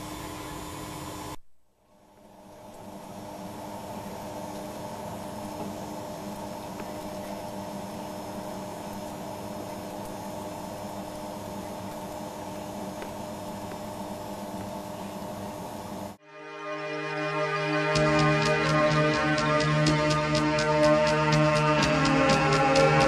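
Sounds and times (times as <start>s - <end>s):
boat machinery humming: 2.0s - 16.2s, 17.0s - 23.0s.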